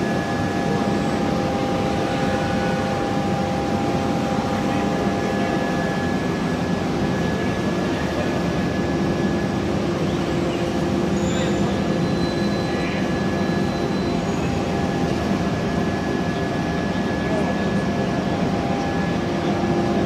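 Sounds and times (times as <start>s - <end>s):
machine drone and hum: 0.0s - 20.0s.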